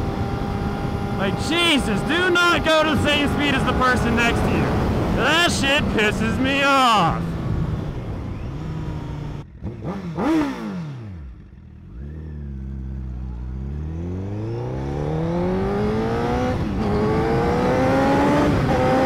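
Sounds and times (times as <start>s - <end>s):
motorcycle engine revving: 0.0s - 6.2s, 7.2s - 19.0s.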